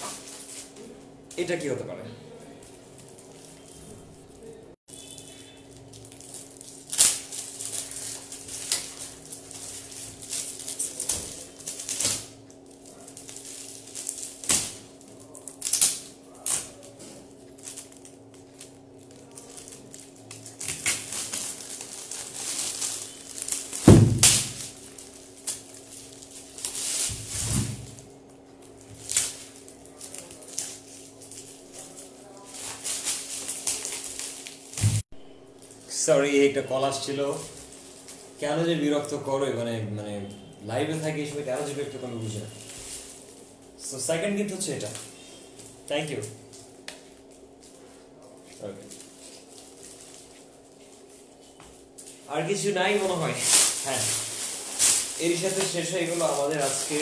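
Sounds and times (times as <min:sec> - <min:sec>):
foil wrap crinkling and tearing: 0:00.0 - 0:01.7, 0:02.5 - 0:35.0, 0:35.6 - 0:39.6, 0:40.4 - 0:57.0.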